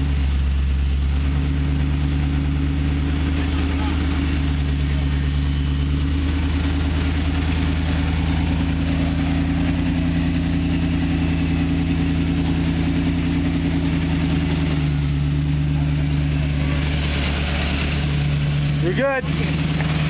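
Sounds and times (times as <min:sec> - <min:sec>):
engine running at low revs: 0:00.0 - 0:20.0.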